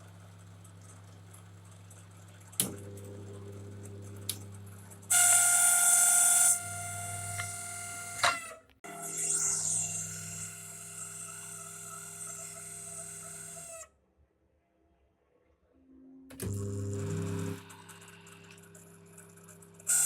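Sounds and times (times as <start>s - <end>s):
microwave electrical hum: 0.0s - 13.8s, 16.3s - 20.0s.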